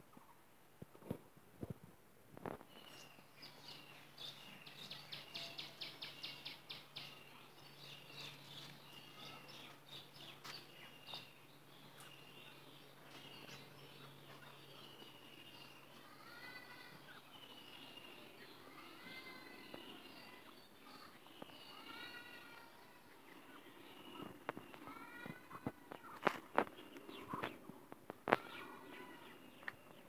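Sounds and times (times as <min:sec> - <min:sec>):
small birds chirping: 0:02.4 - 0:30.0.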